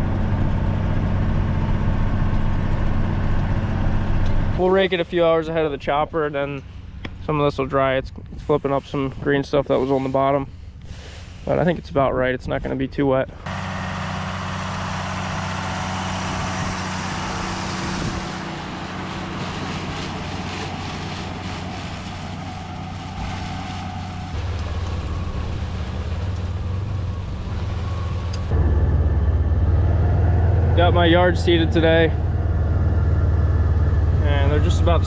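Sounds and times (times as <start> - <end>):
tractor engine running: 0.0 - 8.3, 13.2 - 35.0
vehicle engine rumble: 0.0 - 35.0.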